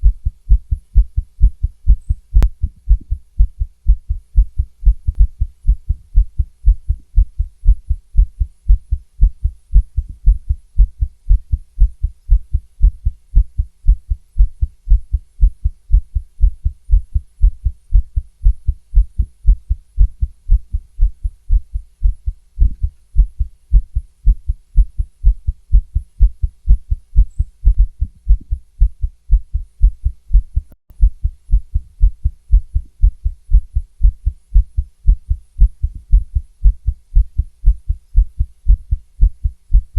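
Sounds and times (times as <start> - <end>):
heartbeat through a stethoscope: 0.0 - 39.9.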